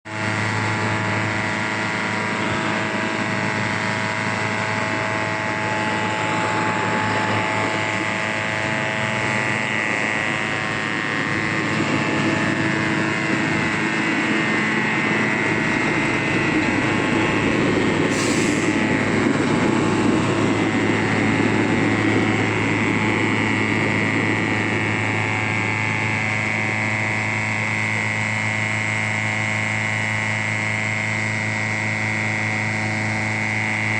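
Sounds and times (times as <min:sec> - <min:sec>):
truck engine humming: 0:00.2 - 0:29.0.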